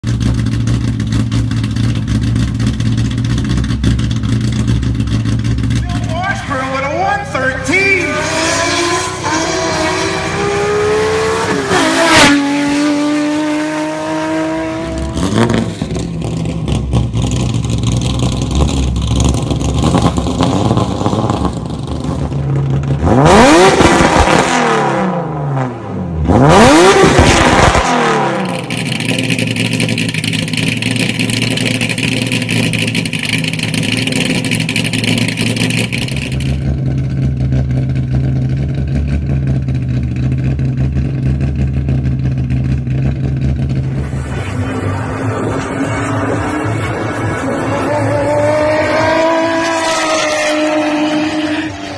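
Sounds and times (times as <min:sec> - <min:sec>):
car engine accelerating and revving: 0:00.0 - 0:51.9.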